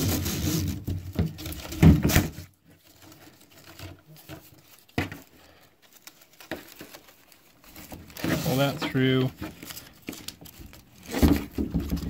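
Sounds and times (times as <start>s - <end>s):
strap rustling and scraping: 0.0s - 12.0s.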